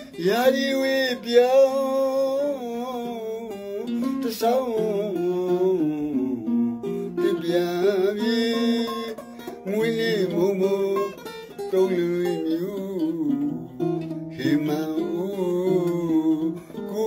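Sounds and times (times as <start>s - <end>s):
man singing: 0.0s - 17.0s
plucked mandolin: 0.0s - 17.0s.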